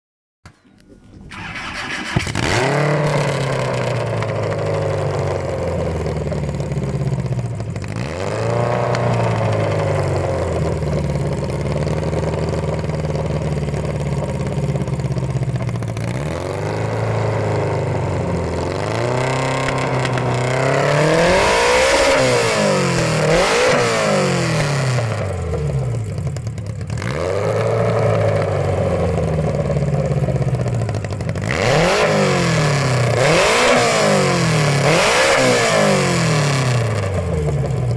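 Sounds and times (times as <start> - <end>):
car engine revving: 1.2 - 37.8.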